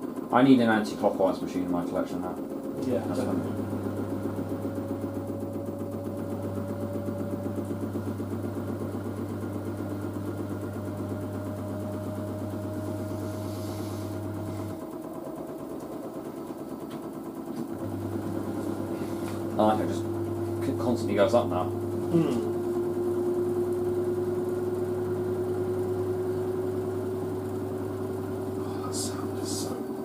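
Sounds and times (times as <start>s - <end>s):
washing machine motor whining: 0.0s - 30.0s
drain pump humming: 0.1s - 30.0s.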